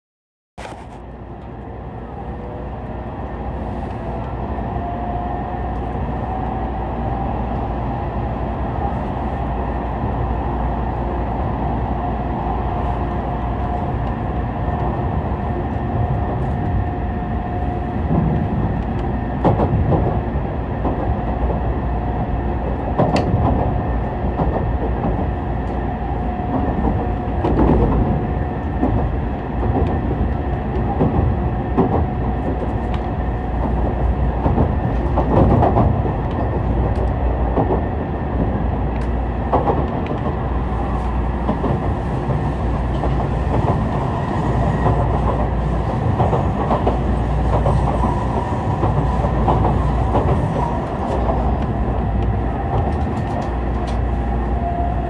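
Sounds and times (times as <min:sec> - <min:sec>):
train rumble and electric whine: 0:00.6 - 0:55.0.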